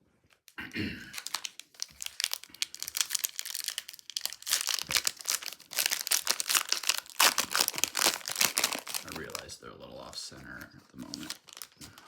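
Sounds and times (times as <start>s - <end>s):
foil wrapper crinkling and tearing: 0.3s - 12.0s.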